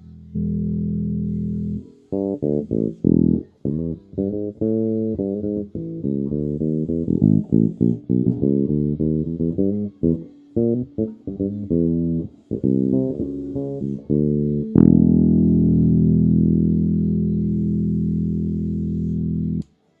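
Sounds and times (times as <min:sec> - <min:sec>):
electric bass riff: 0:00.0 - 0:19.7.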